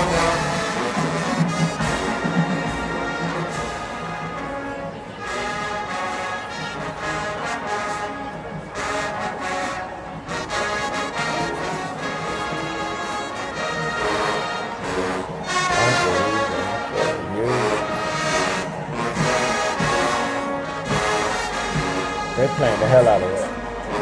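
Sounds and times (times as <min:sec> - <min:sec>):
marching band brass playing: 0:00.0 - 0:24.0.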